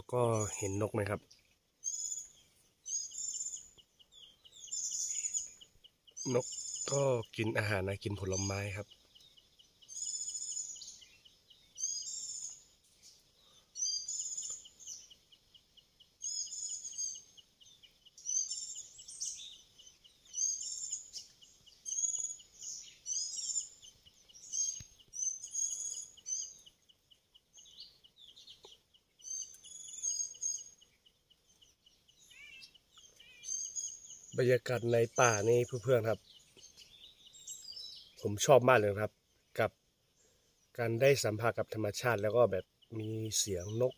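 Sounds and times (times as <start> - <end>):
bird singing chirpy phrases: 0.0 - 43.9.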